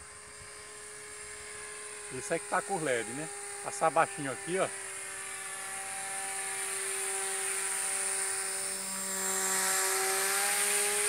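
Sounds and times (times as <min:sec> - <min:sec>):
model aircraft motor drone: 0:00.0 - 0:11.0.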